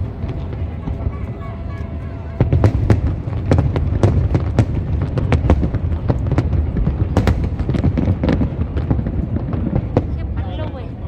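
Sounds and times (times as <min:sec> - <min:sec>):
continuous low rumble: 0:00.0 - 0:11.0
firework bangs and crackles: 0:00.0 - 0:11.0.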